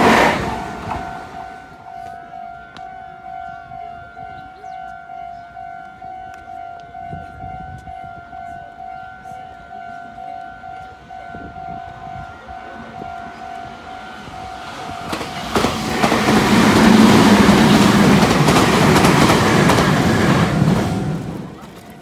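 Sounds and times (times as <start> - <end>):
level crossing warning bell: 0.6 - 21.2.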